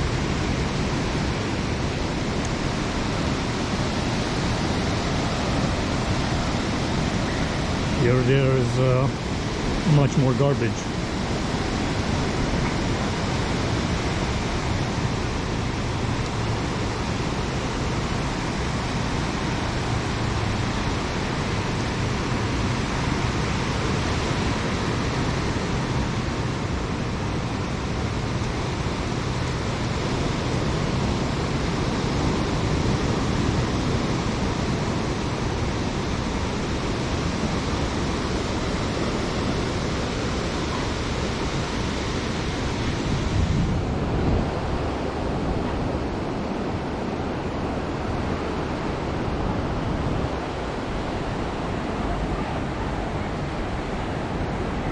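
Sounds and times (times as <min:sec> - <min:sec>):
ocean surf breaking: 0:00.0 - 0:54.9.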